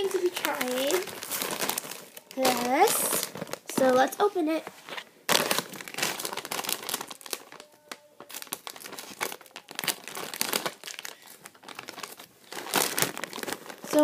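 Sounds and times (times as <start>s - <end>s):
plastic snack bag crinkling: 0.0s - 14.0s.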